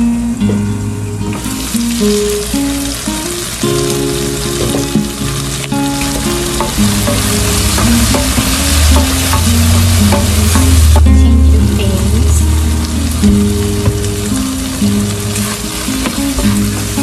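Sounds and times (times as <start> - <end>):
meat and tomatoes sizzling: 0.0 - 17.0.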